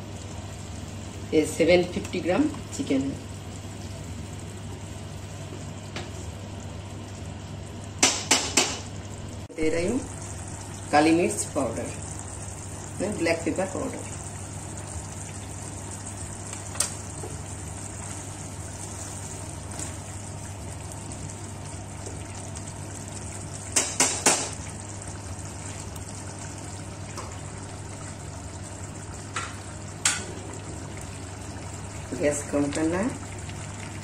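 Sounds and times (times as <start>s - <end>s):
curry bubbling in pan: 0.0s - 34.0s.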